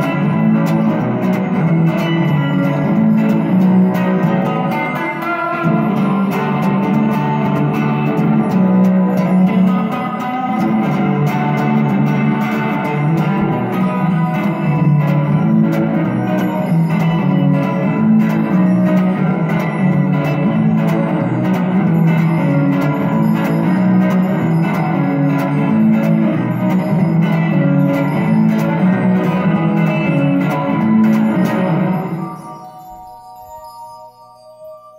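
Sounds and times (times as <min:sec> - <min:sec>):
echoing electric guitar: 0:00.0 - 0:33.0
twinkly synthesizer: 0:00.0 - 0:34.9.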